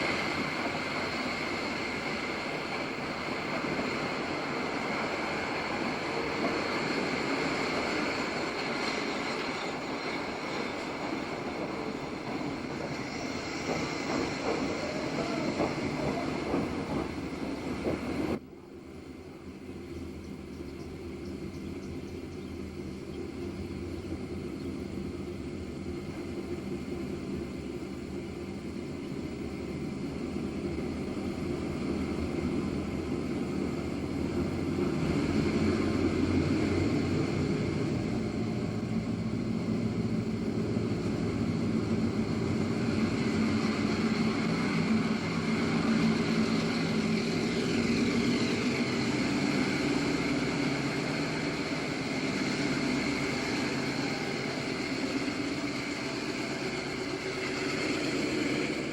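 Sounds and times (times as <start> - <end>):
diesel locomotive engine droning: 0.0 - 58.9.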